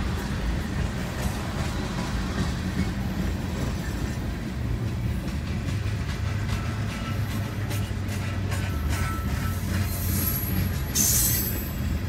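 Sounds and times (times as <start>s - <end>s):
steel wheels rumbling on rail: 0.0s - 12.0s.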